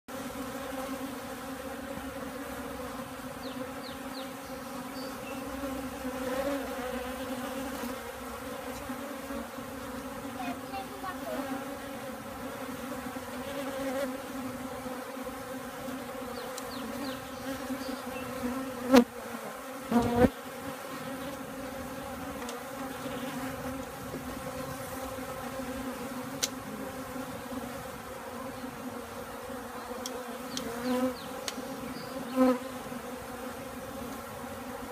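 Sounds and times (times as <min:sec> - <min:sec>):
honeybees buzzing: 0:00.1 - 0:34.9.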